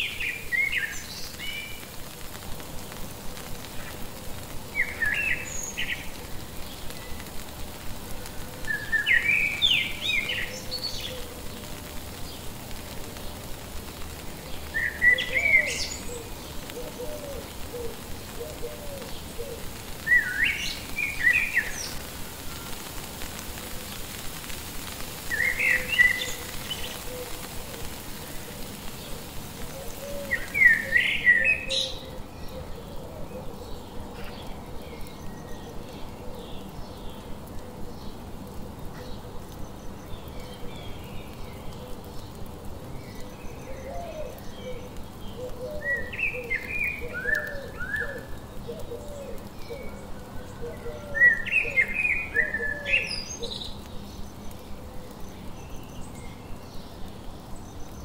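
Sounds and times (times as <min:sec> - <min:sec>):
soft low bird calls: 0:00.0 - 0:58.0.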